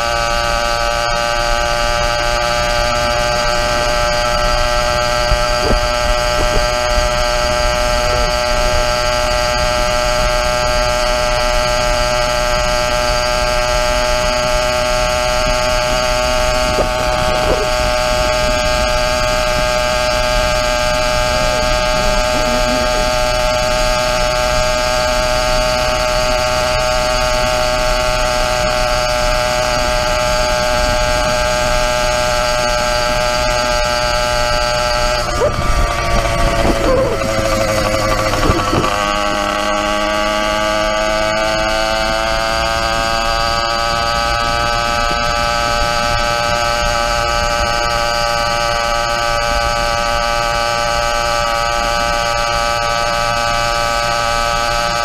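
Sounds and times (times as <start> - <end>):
two-stroke engine droning: 0.0 - 55.0.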